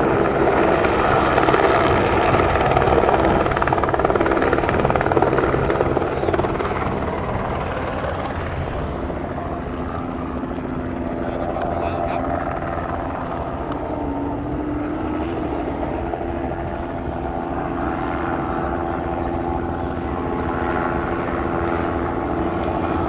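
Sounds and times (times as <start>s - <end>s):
helicopter flying low overhead: 0.0s - 23.0s.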